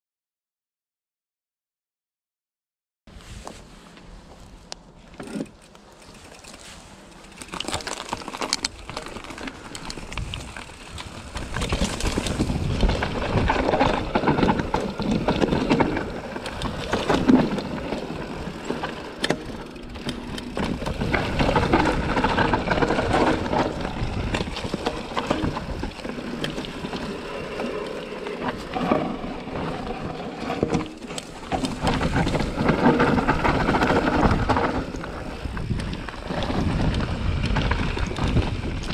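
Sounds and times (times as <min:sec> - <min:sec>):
bike tyres rolling over dirt: 0:03.1 - 0:38.9
bike knocks and rattles: 0:03.4 - 0:38.9.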